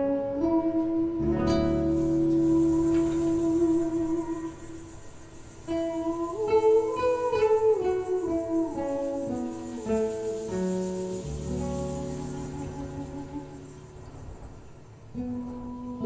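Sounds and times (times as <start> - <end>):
plucked guitar notes: 0.0 - 16.0.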